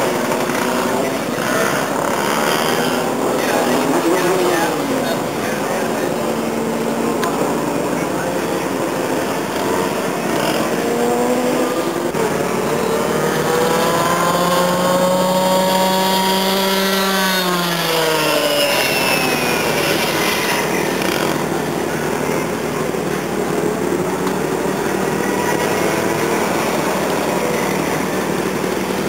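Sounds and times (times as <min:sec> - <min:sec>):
kart engine high-pitched buzz: 0:00.0 - 0:29.0.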